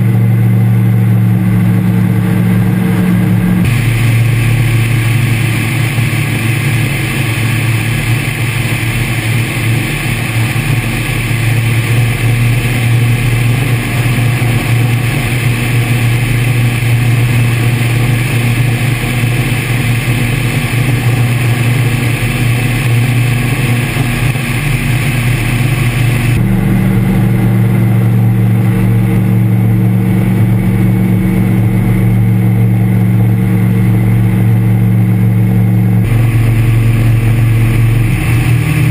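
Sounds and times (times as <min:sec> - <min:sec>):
aircraft engine drone: 0:00.0 - 0:38.9
propeller rushing hiss: 0:00.0 - 0:38.9.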